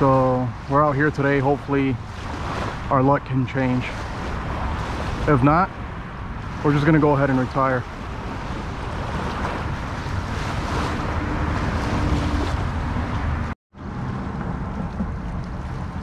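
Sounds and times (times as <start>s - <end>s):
small waves lapping: 0.0s - 13.5s, 14.6s - 16.0s
wind buffeting microphone: 0.0s - 16.0s.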